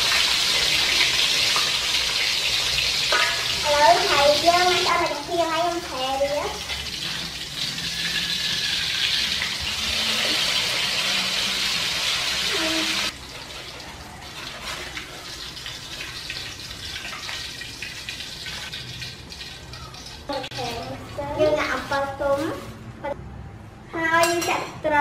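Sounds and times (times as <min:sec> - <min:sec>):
fish frying in hot oil: 0:00.0 - 0:20.9.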